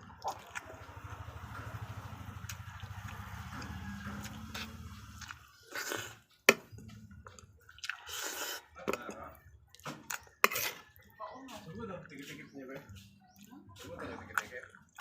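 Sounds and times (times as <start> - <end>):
wet chewing: 0.0 - 15.0.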